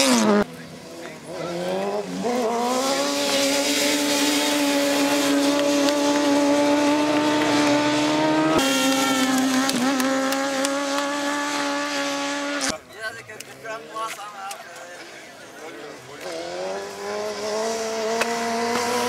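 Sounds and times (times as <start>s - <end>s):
motorcycle engine at high revs: 0.0s - 12.7s, 16.2s - 19.0s.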